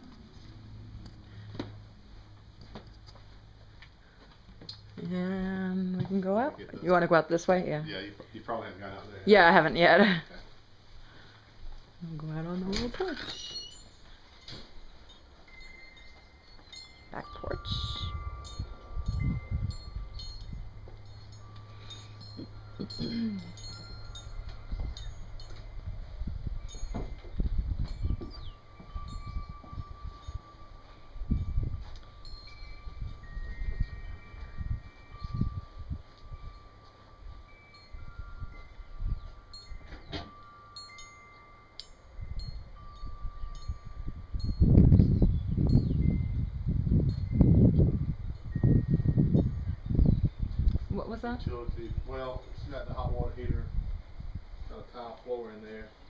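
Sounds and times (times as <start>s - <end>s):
low steady hum: 0.0s - 52.8s
wind chimes ringing: 0.3s - 56.0s.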